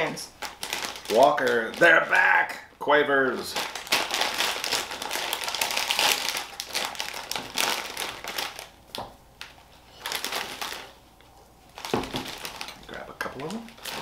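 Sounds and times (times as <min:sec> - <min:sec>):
crisp packet crinkling: 0:00.0 - 0:02.6, 0:03.3 - 0:14.0.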